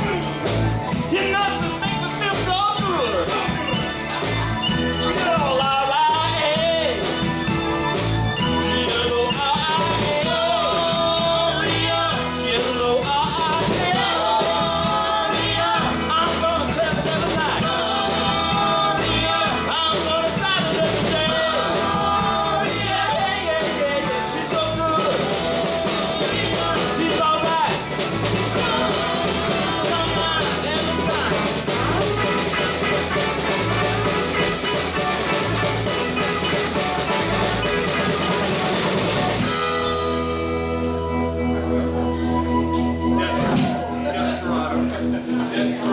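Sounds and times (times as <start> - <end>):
person singing: 0.0 - 7.4, 8.4 - 39.9
live rock band playing: 0.0 - 45.9.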